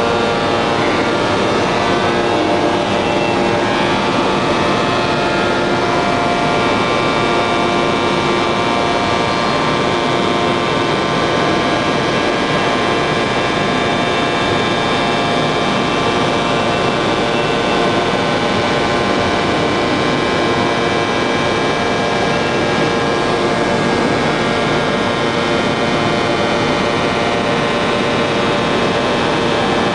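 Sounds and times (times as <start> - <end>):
forging press machine drone: 0.0 - 29.9.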